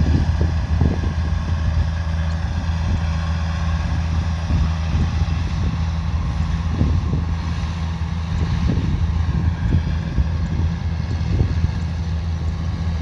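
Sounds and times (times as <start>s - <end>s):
combine harvester engine drone: 0.0s - 13.0s
wind buffeting microphone: 0.0s - 13.0s.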